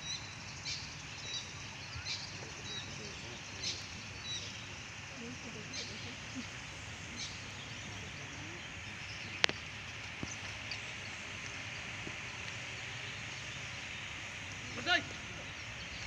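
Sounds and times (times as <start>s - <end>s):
outdoor hush: 0.0s - 16.0s.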